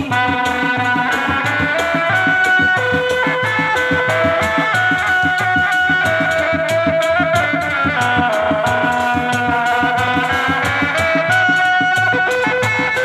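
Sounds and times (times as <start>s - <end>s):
hand drums interlocking beat: 0.0s - 13.0s
high sustained melody: 0.0s - 13.0s.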